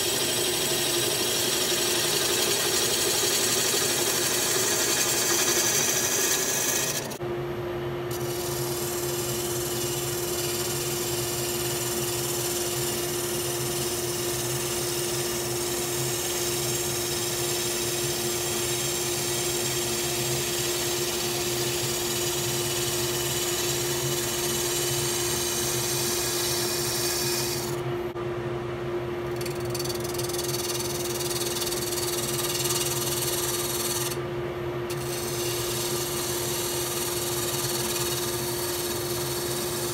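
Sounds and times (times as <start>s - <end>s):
turning tool hissing on wood: 0.0s - 7.2s, 8.1s - 27.8s, 29.4s - 34.2s, 34.9s - 39.9s
wood lathe humming: 0.0s - 7.2s, 8.1s - 27.8s, 29.3s - 34.2s, 34.9s - 39.9s.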